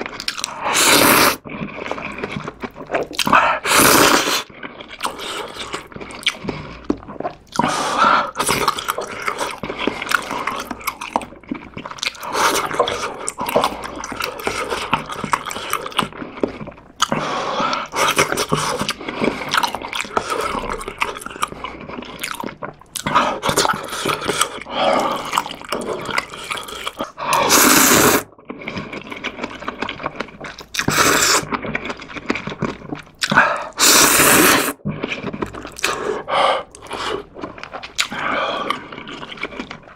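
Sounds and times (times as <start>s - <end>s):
noodle slurping: 0.0s - 39.9s
wet chewing: 0.0s - 39.9s.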